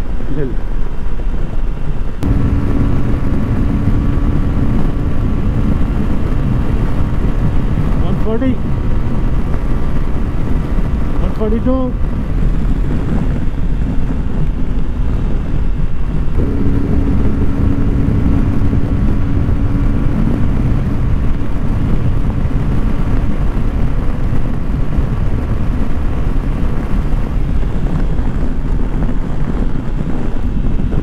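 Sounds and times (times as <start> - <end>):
wind rushing on microphone: 0.0 - 31.0
motorcycle engine at full throttle: 2.1 - 31.0
steady hum: 2.2 - 28.3.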